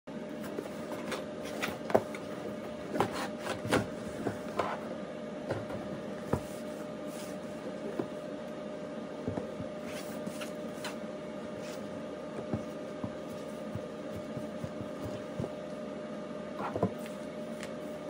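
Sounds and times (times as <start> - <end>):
faint steady hum: 0.1 - 18.0.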